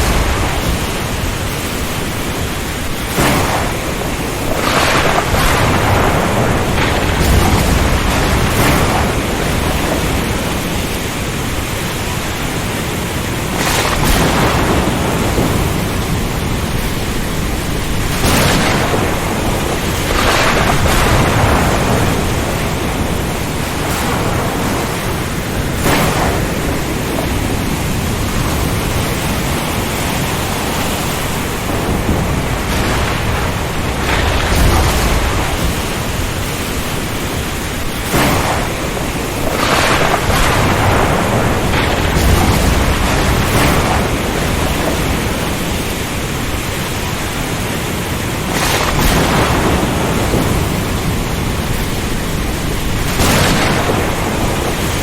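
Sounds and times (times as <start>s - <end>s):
heavy rain: 0.0s - 55.0s
strong wind: 0.0s - 55.0s
thunder cracks and rumbles: 0.0s - 55.0s.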